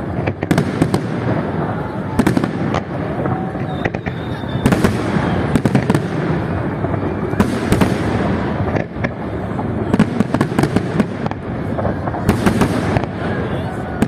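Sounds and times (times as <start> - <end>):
fireworks bangs and crackles: 0.0 - 14.0
fireworks rumble: 0.0 - 14.0.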